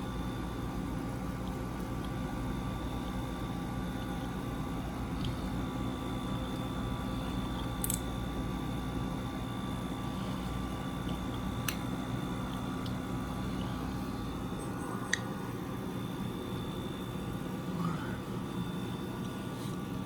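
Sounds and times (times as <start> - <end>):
air conditioner hum and whine: 0.0 - 20.0.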